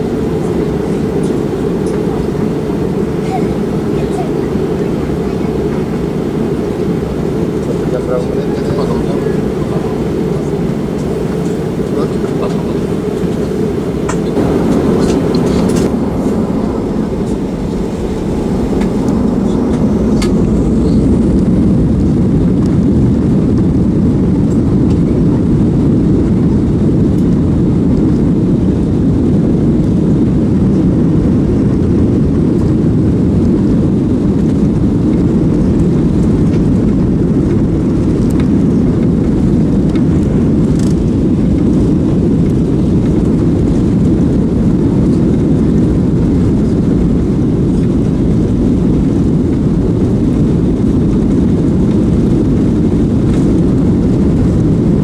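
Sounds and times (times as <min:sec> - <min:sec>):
jet engines from inside cabin: 0:00.0 - 0:55.0.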